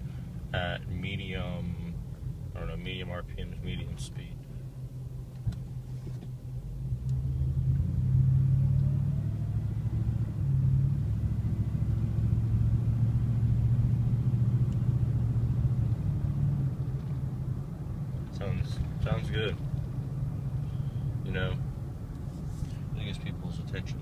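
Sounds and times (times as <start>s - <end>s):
truck exhaust accelerating: 0.0s - 24.0s.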